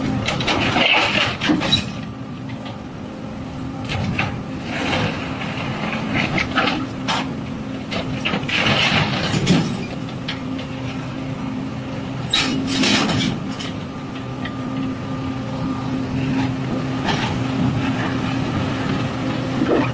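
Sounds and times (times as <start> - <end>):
excavator engine running: 0.0 - 19.9.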